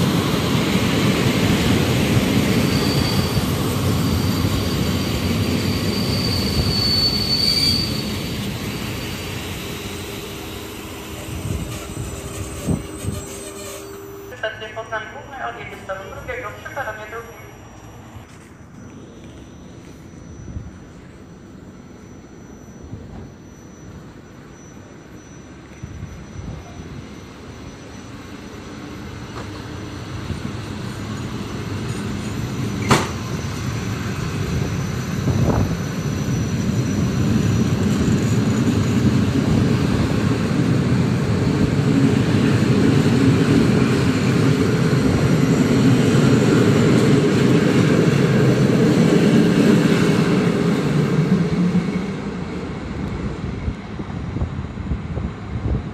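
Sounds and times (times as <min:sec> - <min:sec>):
train wheels rumbling on rails: 0:00.0 - 0:14.3, 0:24.0 - 0:55.9.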